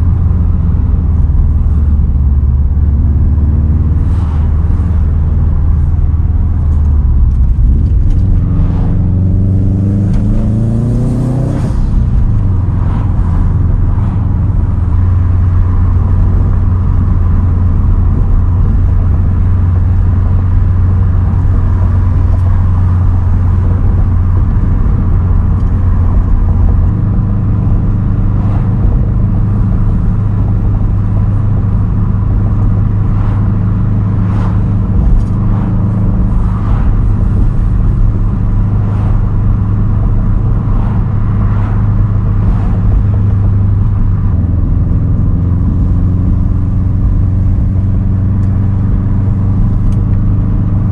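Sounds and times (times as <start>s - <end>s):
car engine revving and droning: 0.0s - 50.9s.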